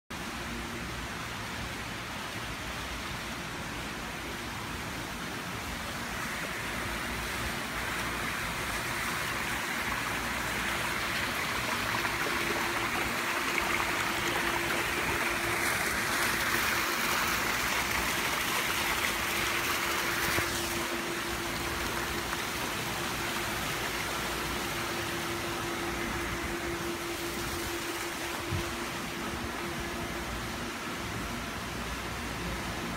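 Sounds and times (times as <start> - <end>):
steady low hum: 0.1 - 32.9
fountain water splashing: 0.2 - 32.9.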